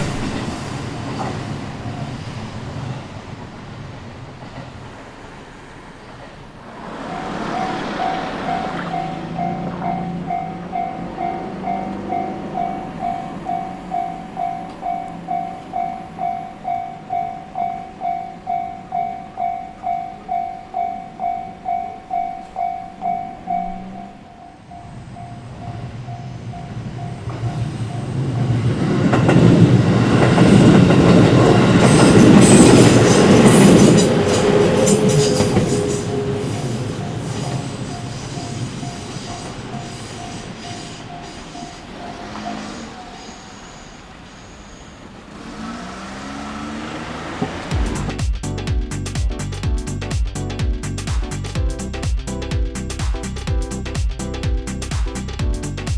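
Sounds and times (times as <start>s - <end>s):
crossing warning bell ringing: 0.0s - 3.4s, 4.4s - 46.4s
train wheels clicking over rail joints: 0.0s - 46.2s.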